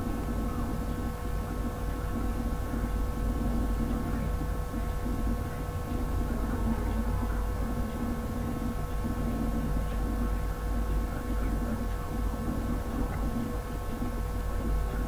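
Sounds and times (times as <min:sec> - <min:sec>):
low humming rumble with tones: 0:00.0 - 0:15.0.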